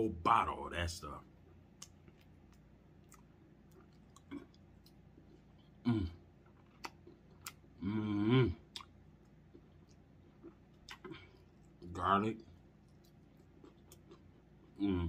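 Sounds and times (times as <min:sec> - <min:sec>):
closed-mouth hum: 0:00.0 - 0:15.0
man chewing food: 0:01.3 - 0:15.0.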